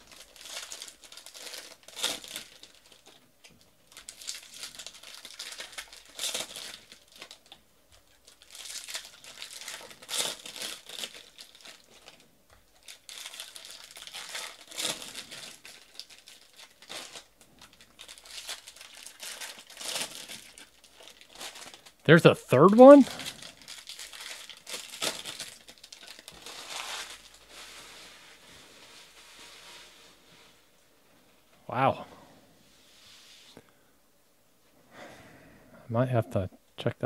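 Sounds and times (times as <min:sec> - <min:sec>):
foil wrappers tearing and crinkling: 0:00.0 - 0:30.5.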